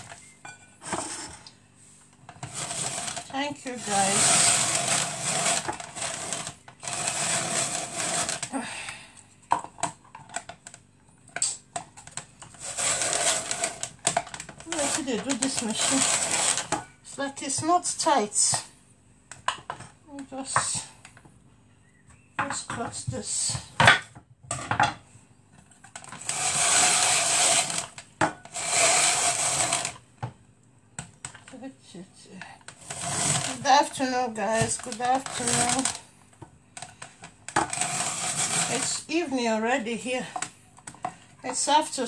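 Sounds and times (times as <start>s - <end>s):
kitchen rustling and scraping: 0.0s - 8.6s, 9.5s - 18.7s, 21.9s - 30.4s, 31.2s - 42.0s.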